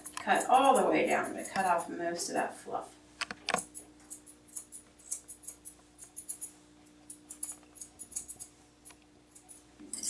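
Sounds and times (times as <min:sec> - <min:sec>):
scissors snipping fur: 0:00.1 - 0:02.4, 0:03.2 - 0:10.0.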